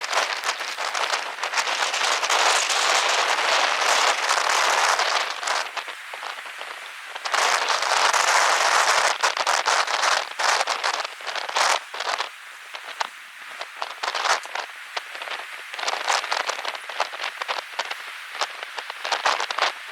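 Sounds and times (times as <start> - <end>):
wind driving snow: 0.0 - 19.9.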